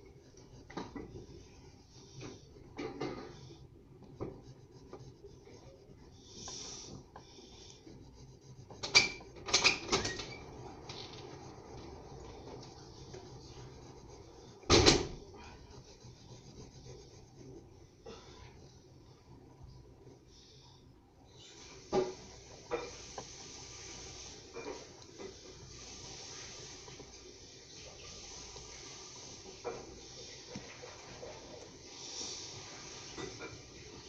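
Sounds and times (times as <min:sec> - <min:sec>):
pencil scratching on paper: 0:00.0 - 0:20.6, 0:21.5 - 0:34.0.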